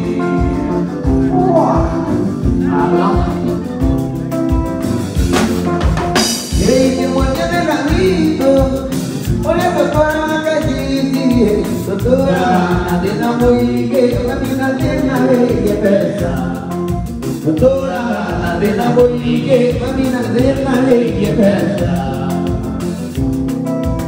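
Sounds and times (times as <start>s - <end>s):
man singing: 0.0s - 4.2s, 6.4s - 23.4s
drum beat: 0.0s - 24.0s
electric guitar: 0.0s - 24.0s
live band music: 0.0s - 24.0s.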